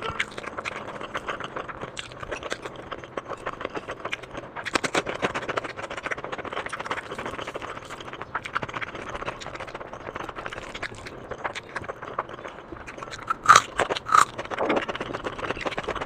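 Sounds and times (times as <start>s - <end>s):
wet mouth clicks and smacks chewing: 0.0s - 16.0s.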